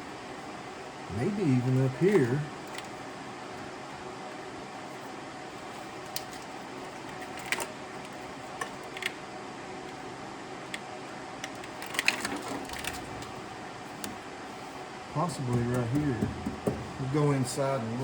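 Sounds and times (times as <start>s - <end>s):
steady fan hum: 0.0s - 18.0s.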